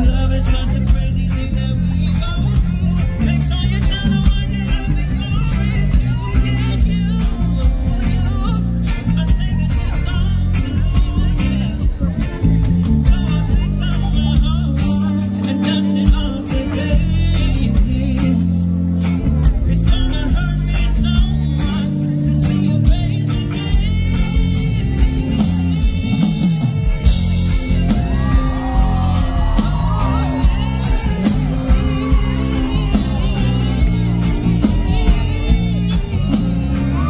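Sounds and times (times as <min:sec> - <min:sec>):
heavy bass: 0:00.0 - 0:37.0
lead singer singing: 0:00.0 - 0:37.0
live band music: 0:00.0 - 0:37.0.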